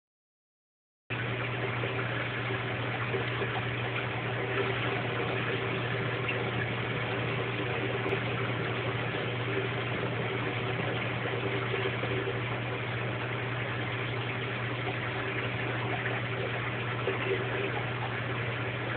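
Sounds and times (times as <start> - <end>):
aquarium equipment hum: 1.1 - 18.9.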